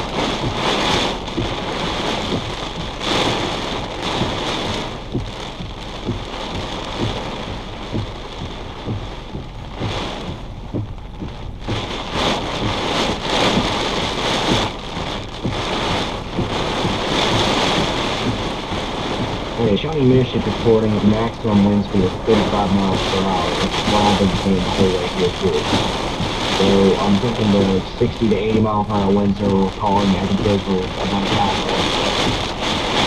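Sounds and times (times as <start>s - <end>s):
heavy rain drumming on car roof: 0.0s - 33.0s.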